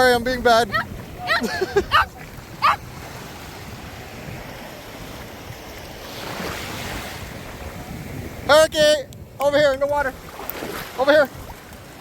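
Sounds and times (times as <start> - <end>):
sea waves washing on beach: 0.0 - 12.0
wind rushing on microphone: 0.0 - 12.0.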